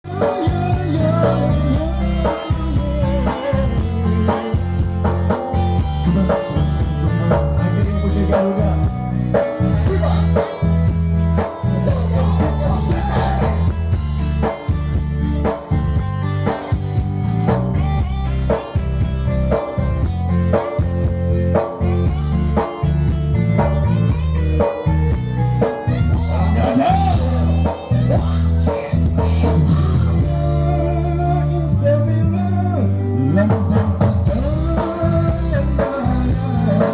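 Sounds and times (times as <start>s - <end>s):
guitar: 0.0s - 36.9s
heavy bass line: 0.0s - 36.9s
steady drum beat: 0.1s - 30.6s, 33.4s - 36.9s.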